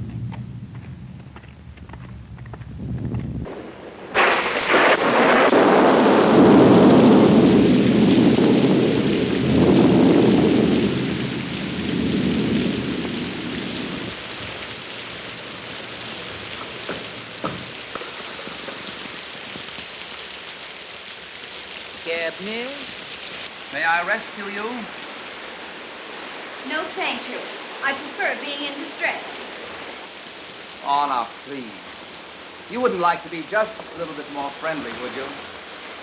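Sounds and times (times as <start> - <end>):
thunder rolling: 0.0 - 20.1, 21.8 - 36.0
steady rain: 0.0 - 36.0.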